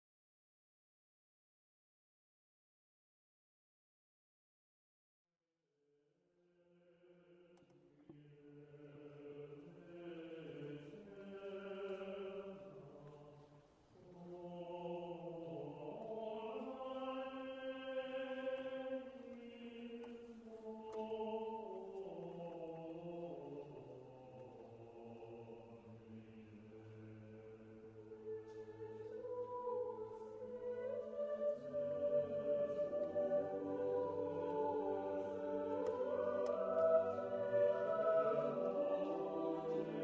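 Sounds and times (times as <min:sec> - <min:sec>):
choir chanting long notes: 0:06.6 - 0:40.0.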